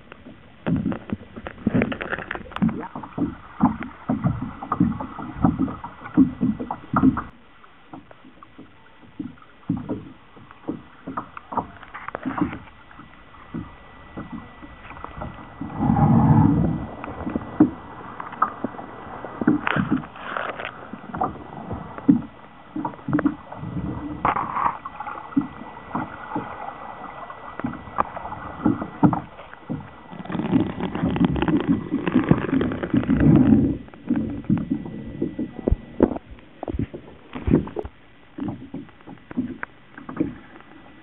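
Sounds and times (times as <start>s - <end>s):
faint high whine: 0.0s - 41.0s
muffled water sloshing underwater: 0.0s - 41.0s.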